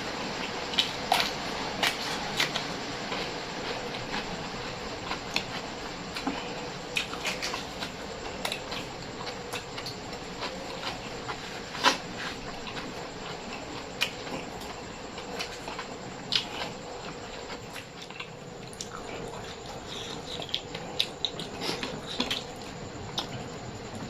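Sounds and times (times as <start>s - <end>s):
person chewing wetly: 0.4s - 23.6s.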